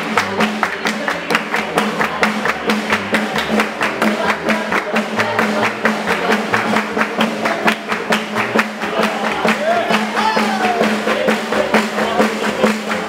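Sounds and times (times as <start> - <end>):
double bass: 0.0 - 13.0
swing band playing: 0.0 - 13.0.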